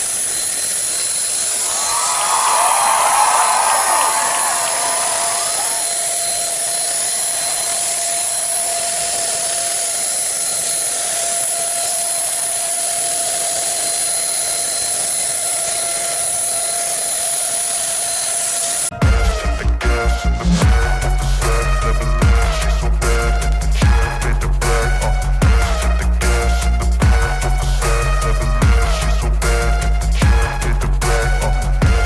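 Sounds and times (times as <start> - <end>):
motor whine: 5.4 - 32.0.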